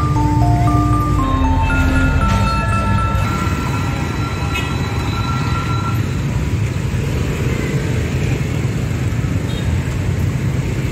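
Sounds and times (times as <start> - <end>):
motorbike traffic rumble: 0.0 - 10.9.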